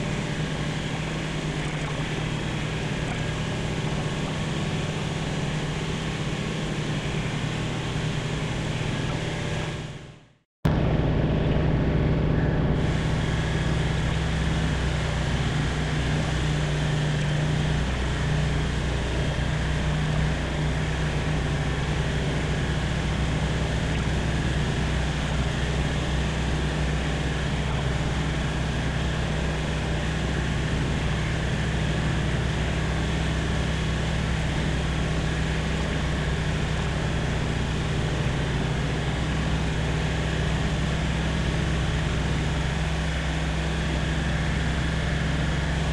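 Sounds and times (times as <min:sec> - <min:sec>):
light aircraft engine droning: 0:00.0 - 0:45.9.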